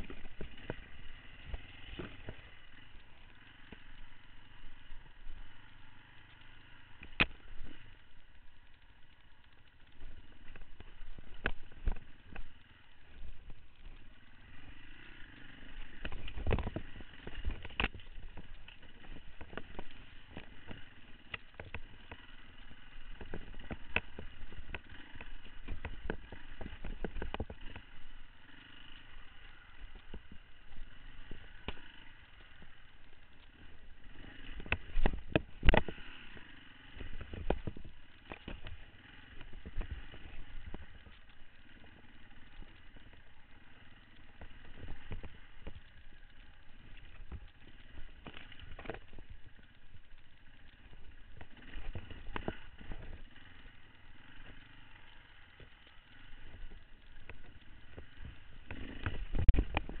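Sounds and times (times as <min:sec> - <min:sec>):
dirt bike engine running: 0:00.0 - 1:00.0.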